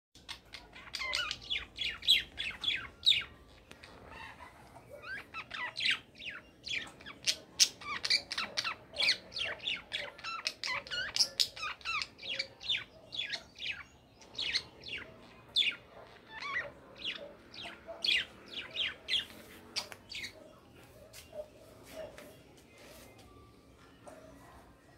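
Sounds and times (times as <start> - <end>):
budgerigars warbling: 0.2 - 20.4.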